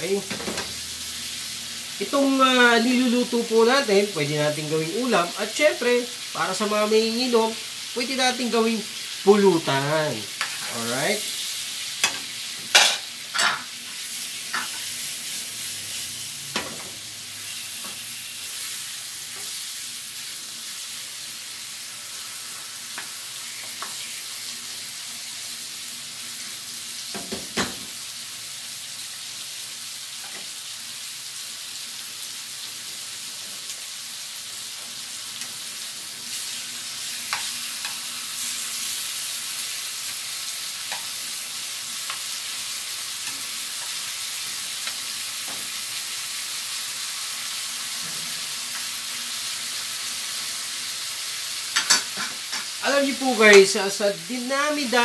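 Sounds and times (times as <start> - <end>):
meat sizzling in a frying pan: 0.0 - 55.0.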